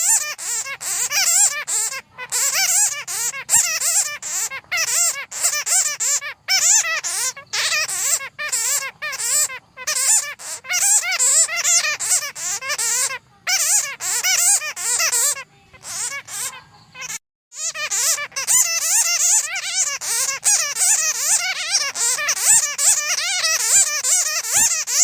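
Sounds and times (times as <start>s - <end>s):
bats squeaking and chattering: 0.0s - 25.0s.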